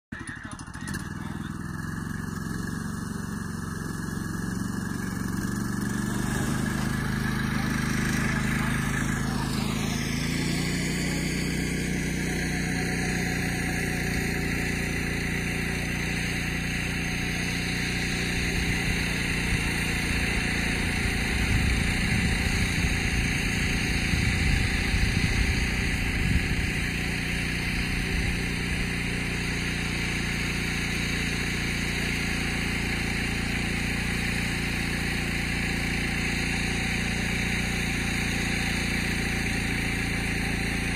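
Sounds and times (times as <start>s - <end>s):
tow machine engine running: 0.1s - 40.9s.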